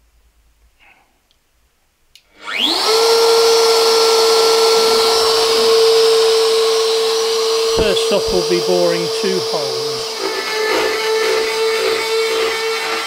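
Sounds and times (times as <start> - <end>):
router spindle motor whining: 2.4 - 13.0.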